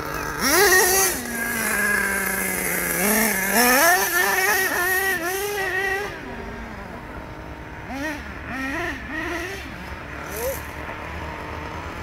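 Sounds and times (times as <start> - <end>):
small rc car engine revving: 0.0 - 12.0.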